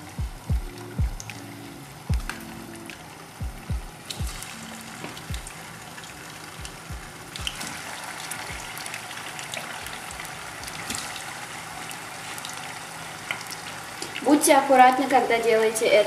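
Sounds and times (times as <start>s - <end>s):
chicken sizzling in oil: 3.0s - 16.0s.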